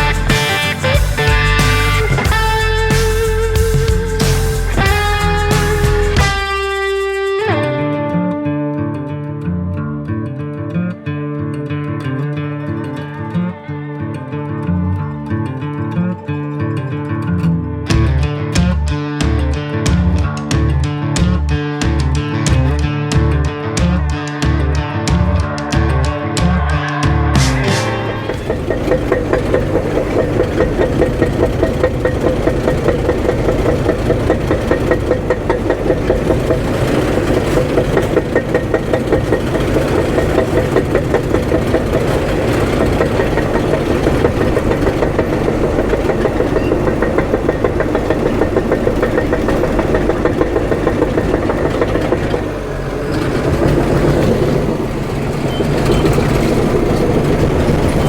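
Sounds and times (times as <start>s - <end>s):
earthmoving machine diesel engine: 0.0s - 7.3s, 18.0s - 58.0s.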